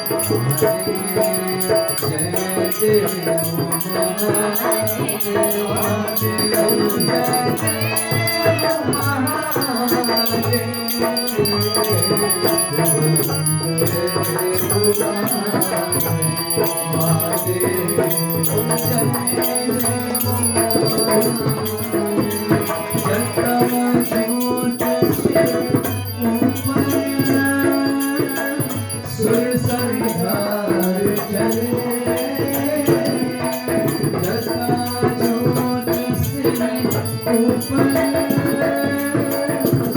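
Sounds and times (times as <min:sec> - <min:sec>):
instrumental accompaniment: 0:00.0 - 0:39.9
rattling hand percussion: 0:00.0 - 0:39.9
voices singing devotional song: 0:00.0 - 0:39.9.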